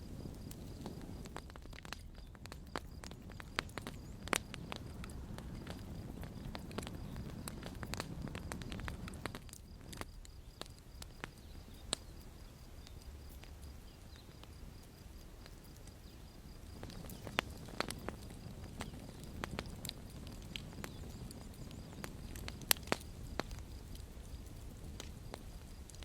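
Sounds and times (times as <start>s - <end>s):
campfire crackling and popping: 0.0s - 26.0s
low rumble of burning: 0.0s - 26.0s.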